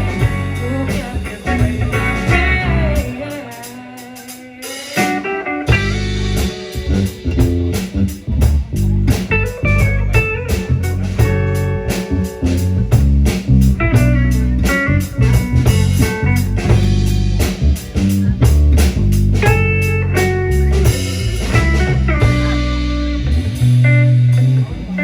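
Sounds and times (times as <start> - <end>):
live band playing: 0.0 - 25.0.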